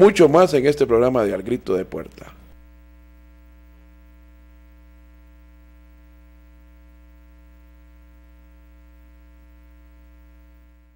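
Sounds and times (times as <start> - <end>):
electrical mains hum: 0.0 - 10.9.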